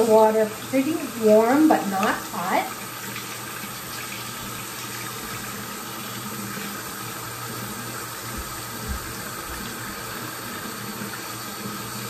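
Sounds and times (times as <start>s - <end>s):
tap running into sink: 1.6s - 12.0s.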